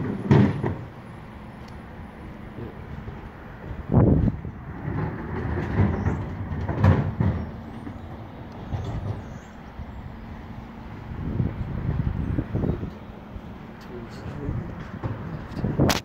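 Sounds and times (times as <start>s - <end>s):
distant lorry engine humming: 0.0s - 16.0s.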